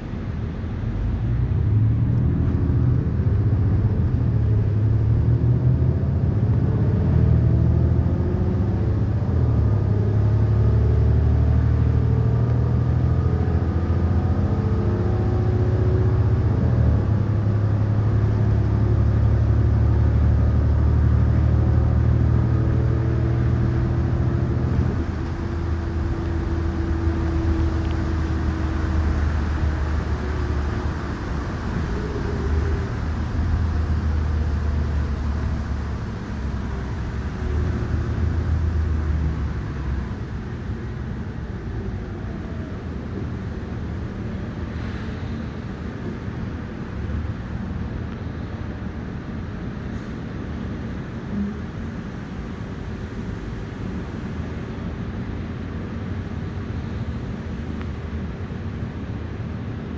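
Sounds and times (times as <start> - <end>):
bus engine accelerating: 0.0 - 59.9.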